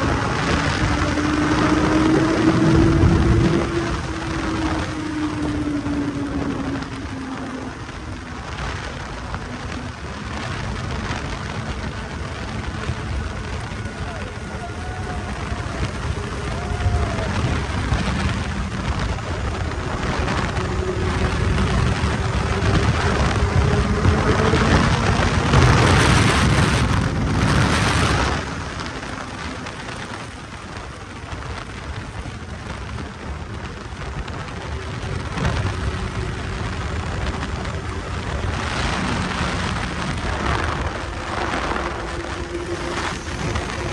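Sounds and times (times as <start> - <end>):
motorcycle engine hum: 0.0 - 43.9
wind rush on microphone: 0.0 - 43.9.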